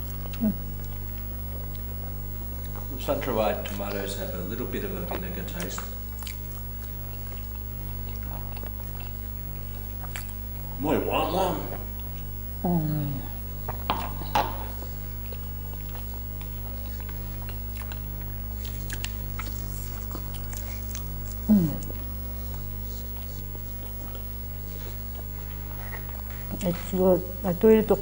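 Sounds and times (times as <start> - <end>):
chewing and eating sounds: 0.0 - 28.0
low steady hum: 0.0 - 28.0.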